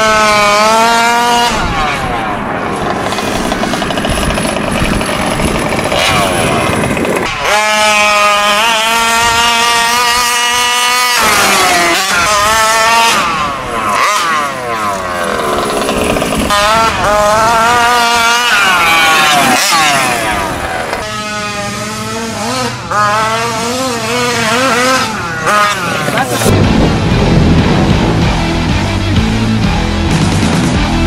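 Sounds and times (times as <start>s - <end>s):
two-stroke engine revving: 0.0s - 31.0s.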